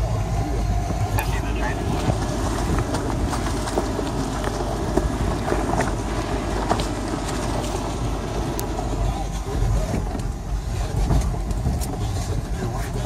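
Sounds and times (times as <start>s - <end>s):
engine and drivetrain rumble: 0.0s - 13.0s
knocks and rattles of vehicle body: 0.8s - 13.0s.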